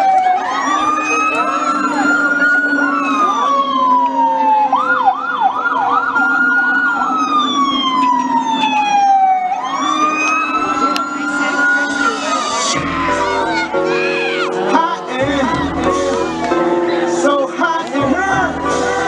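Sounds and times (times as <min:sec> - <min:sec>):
emergency vehicle siren: 0:00.0 - 0:19.0.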